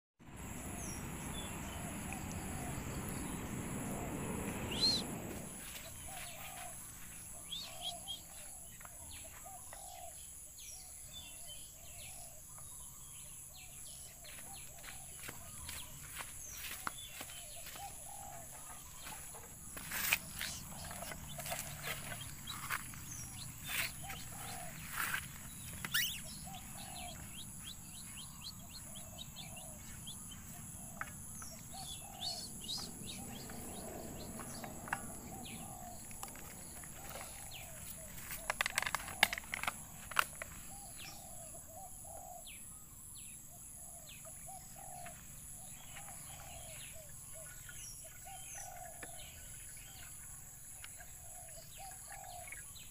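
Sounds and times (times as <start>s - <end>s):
bird chirping: 0.3s - 52.9s.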